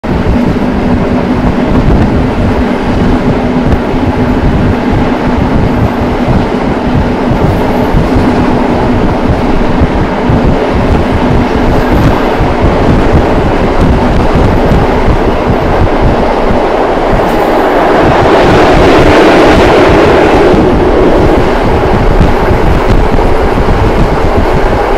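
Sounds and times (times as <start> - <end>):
train rumbling: 0.0 - 24.9.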